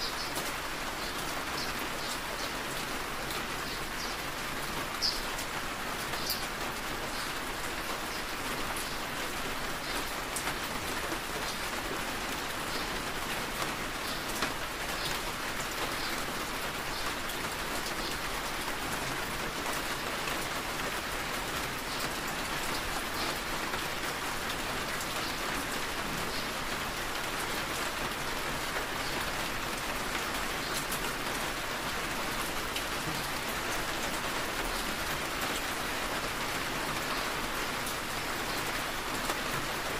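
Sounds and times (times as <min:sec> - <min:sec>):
rain on car windshield and roof: 0:00.2 - 0:39.9.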